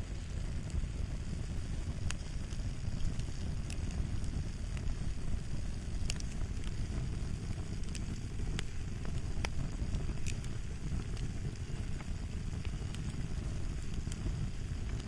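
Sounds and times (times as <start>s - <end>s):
low rumble: 0.0s - 15.0s
wood fire crackling: 0.0s - 15.0s.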